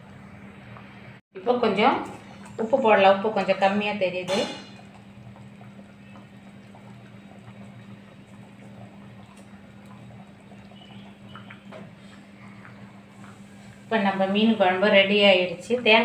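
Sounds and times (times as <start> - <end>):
curry bubbling in a pot: 0.0 - 16.0.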